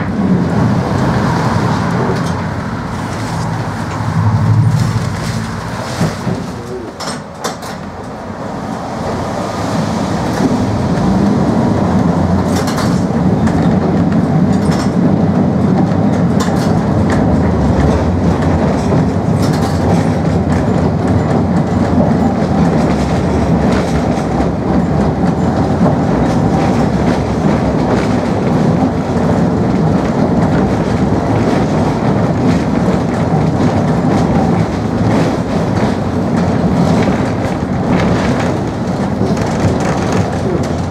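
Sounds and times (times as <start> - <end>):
tram wheels rumbling: 0.0 - 40.9.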